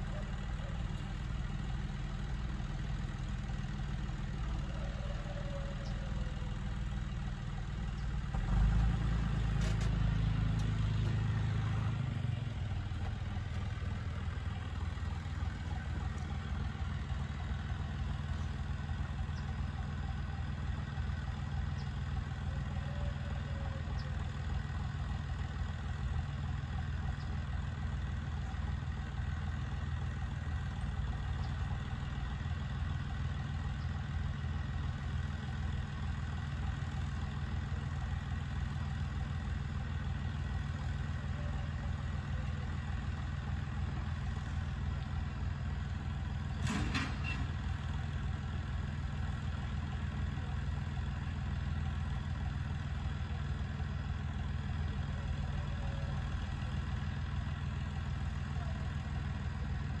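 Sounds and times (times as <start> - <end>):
tractor engine idling: 0.0 - 60.0.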